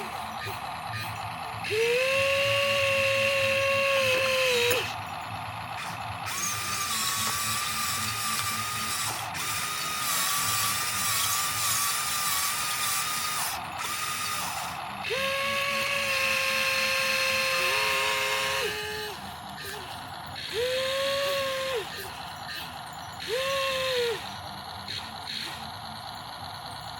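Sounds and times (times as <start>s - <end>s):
electric motors whining: 0.0s - 26.9s
gears rattling: 0.0s - 26.9s.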